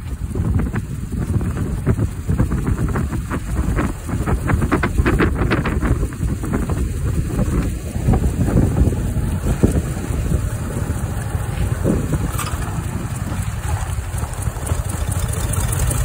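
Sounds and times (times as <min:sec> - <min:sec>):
car engine running: 0:00.0 - 0:16.0
wind rumbling on microphone: 0:00.0 - 0:16.0.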